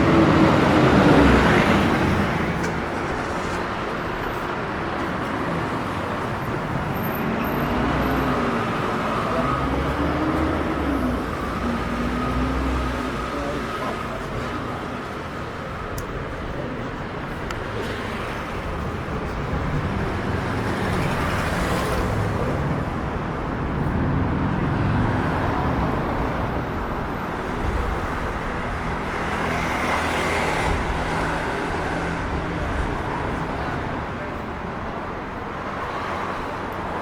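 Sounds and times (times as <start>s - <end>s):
cars passing by: 0.0s - 37.0s.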